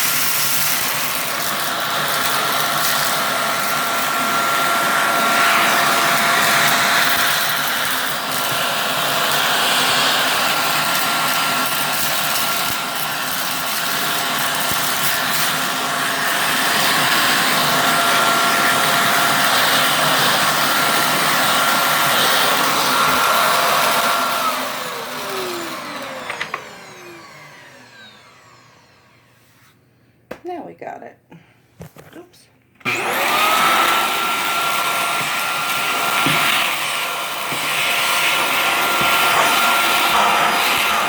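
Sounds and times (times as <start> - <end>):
vacuum cleaner whining: 0.0 - 29.5, 32.8 - 41.0.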